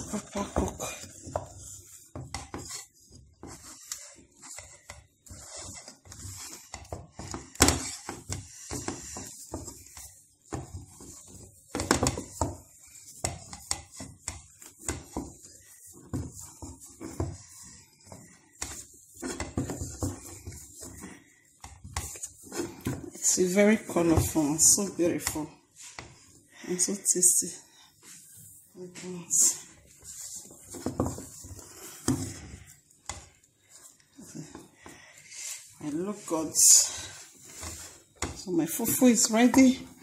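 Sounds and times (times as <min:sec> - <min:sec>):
wooden spoon scraping a saucepan: 0:00.0 - 0:40.0.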